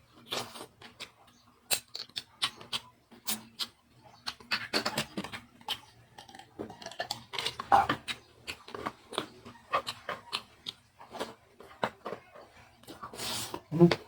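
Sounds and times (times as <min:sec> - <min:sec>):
chewing and biting seafood: 0:00.2 - 0:13.7.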